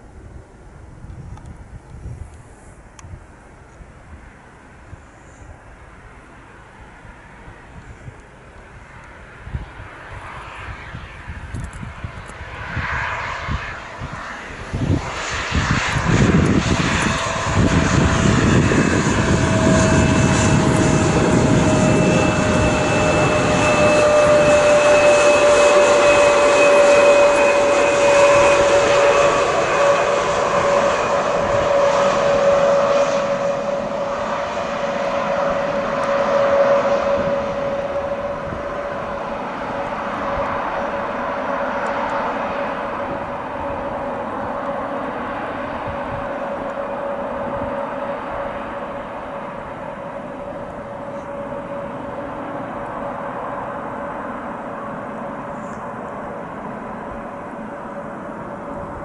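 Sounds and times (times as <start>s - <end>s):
jet engines roaring and whining: 0.0s - 59.0s.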